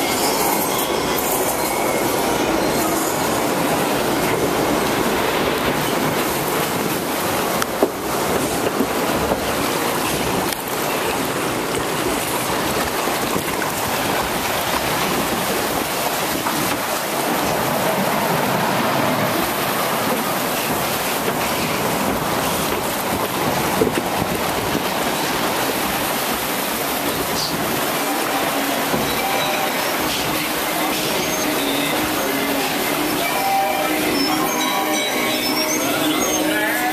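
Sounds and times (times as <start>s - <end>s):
water rushing along flume: 0.0s - 36.9s.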